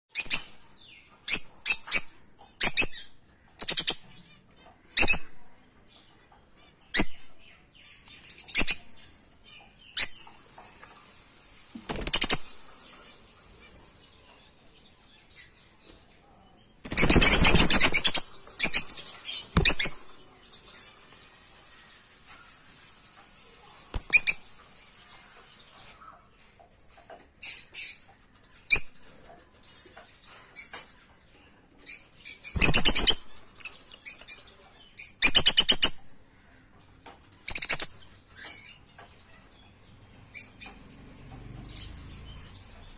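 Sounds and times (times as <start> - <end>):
lovebirds chirping and chattering: 0.1 - 42.9.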